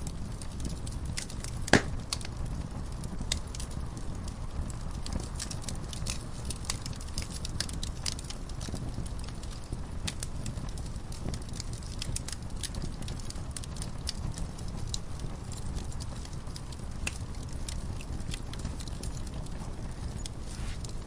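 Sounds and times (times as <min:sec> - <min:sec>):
low rumble of fire: 0:00.0 - 0:21.0
wood fire crackling and popping: 0:00.0 - 0:21.0.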